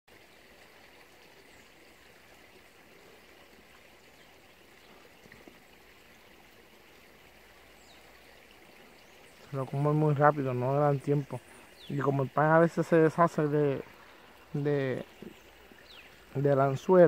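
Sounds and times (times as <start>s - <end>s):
creek water flowing: 0.1s - 17.0s.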